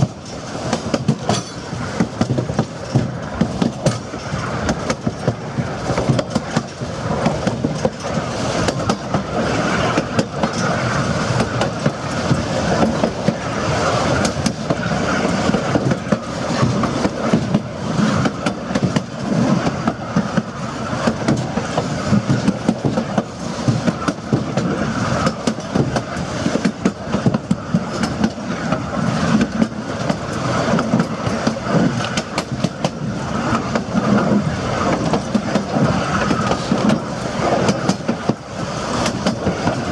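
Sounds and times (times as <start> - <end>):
railroad car rumbling on track: 0.0 - 39.9
wheels clattering over rails: 0.0 - 39.9.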